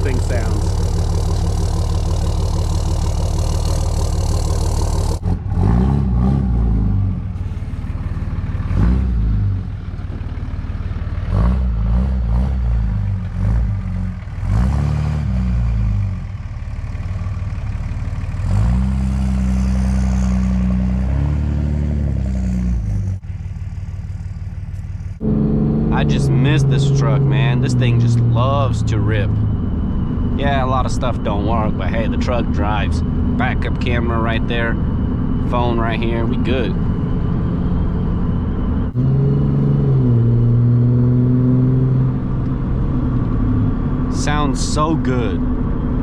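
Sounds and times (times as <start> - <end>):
diesel engine running: 0.0 - 46.0
engine shifting through gears: 0.0 - 46.0.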